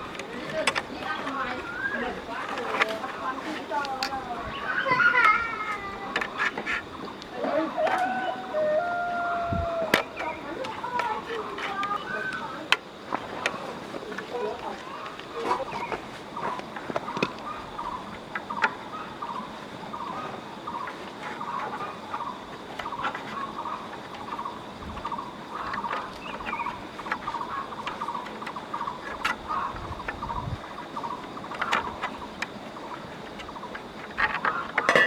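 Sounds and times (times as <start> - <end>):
poultry warbling calls: 0.0 - 35.0.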